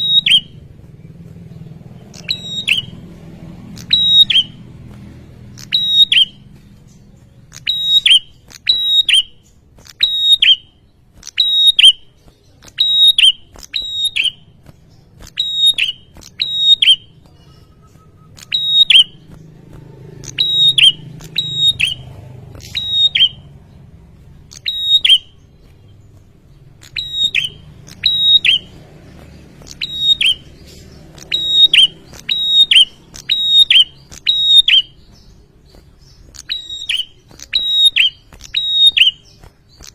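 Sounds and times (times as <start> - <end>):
bird calling with high whistled notes: 0.0 - 0.7, 2.1 - 3.0, 3.7 - 4.7, 5.5 - 19.4, 20.2 - 22.0, 22.6 - 23.6, 24.4 - 28.8, 29.4 - 39.9.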